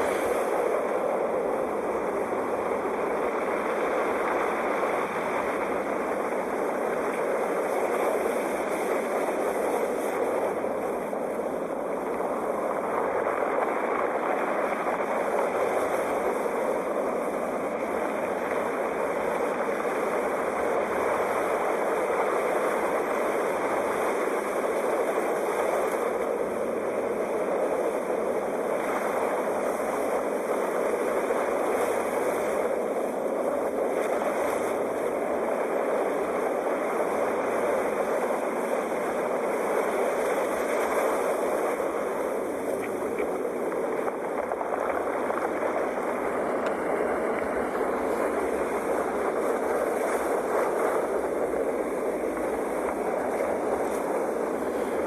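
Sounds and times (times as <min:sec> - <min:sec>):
surf washing on shore: 0:00.0 - 0:55.0.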